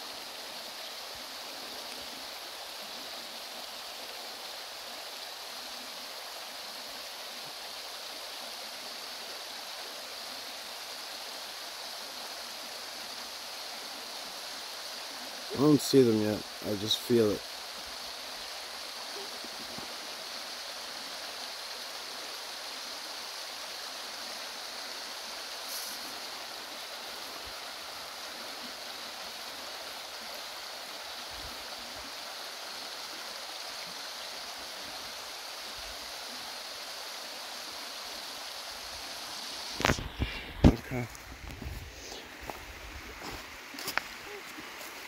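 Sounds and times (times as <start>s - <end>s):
mountain stream flowing: 0.0s - 45.0s.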